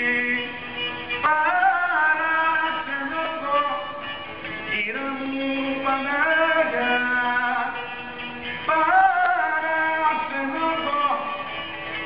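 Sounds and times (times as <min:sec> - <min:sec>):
folk music with gliding melody: 0:00.0 - 0:12.0.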